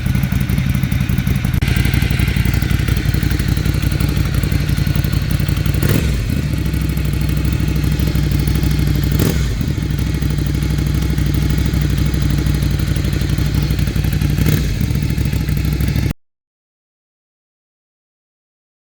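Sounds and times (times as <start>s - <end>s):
motorcycle engine idling: 0.0s - 16.1s.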